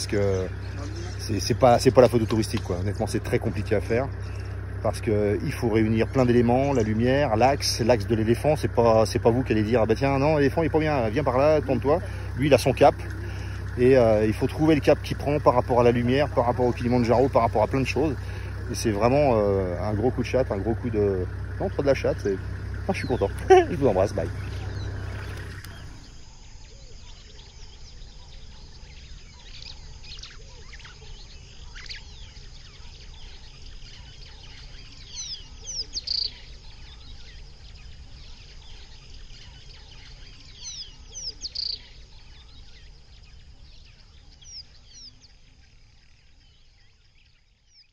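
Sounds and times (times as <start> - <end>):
steady low rumble: 0.0 - 47.8
birds chirping: 0.0 - 47.9.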